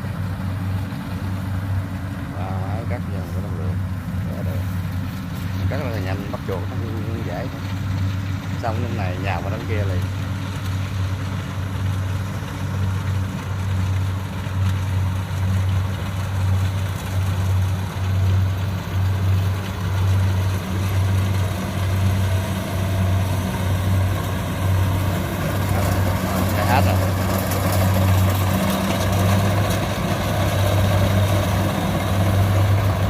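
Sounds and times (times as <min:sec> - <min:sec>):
combine harvester diesel engines: 0:00.0 - 0:33.0.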